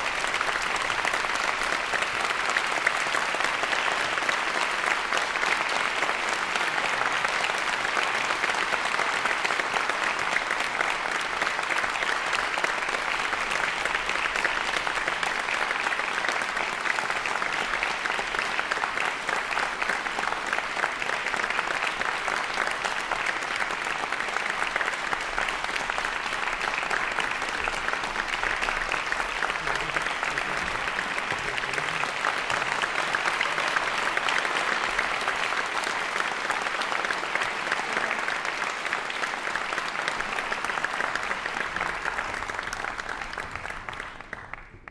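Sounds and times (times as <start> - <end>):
audience applauding: 0.0 - 44.9.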